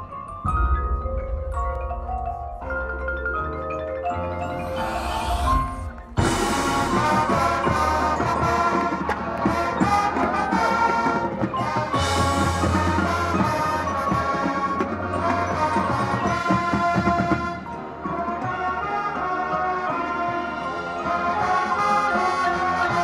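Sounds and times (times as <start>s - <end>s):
marching band playing: 0.4s - 23.0s.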